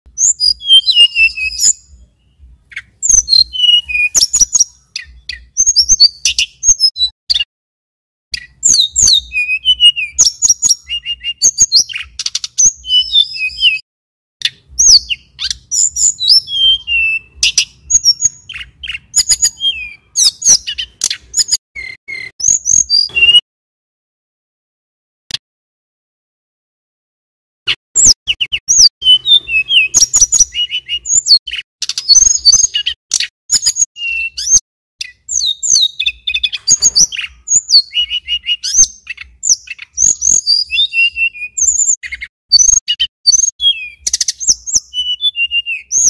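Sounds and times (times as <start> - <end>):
bird singing whistled notes: 0.1 - 7.5, 8.3 - 13.8, 14.4 - 23.4, 28.0 - 46.0.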